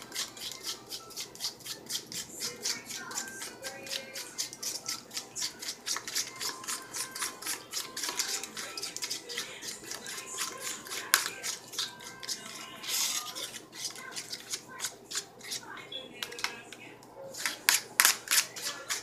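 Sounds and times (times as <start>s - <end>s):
fork beating egg in container: 0.0s - 16.6s, 17.3s - 19.0s.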